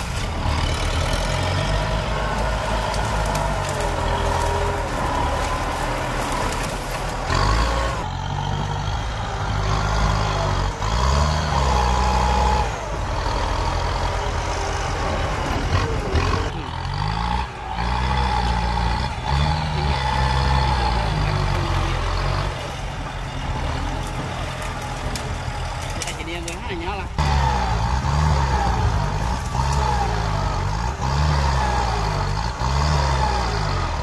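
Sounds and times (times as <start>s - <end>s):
tractor engine revving: 0.0s - 34.0s.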